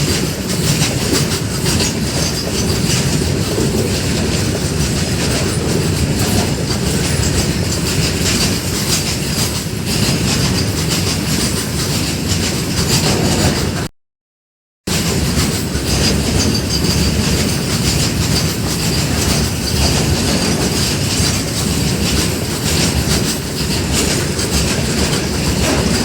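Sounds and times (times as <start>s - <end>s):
train wheels clattering on track: 0.0s - 13.9s, 14.9s - 26.0s.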